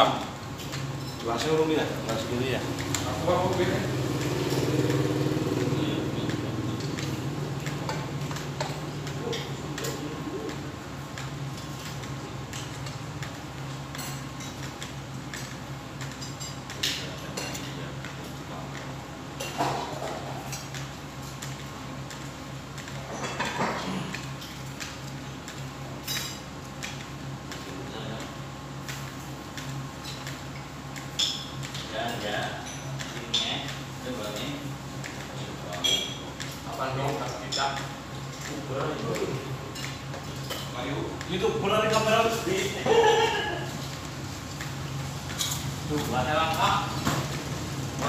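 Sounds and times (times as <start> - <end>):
steady low hum: 0.0 - 48.0
utensils and plates clinking: 0.6 - 10.6, 11.2 - 18.8, 19.4 - 25.0, 28.9 - 44.7, 45.3 - 47.4.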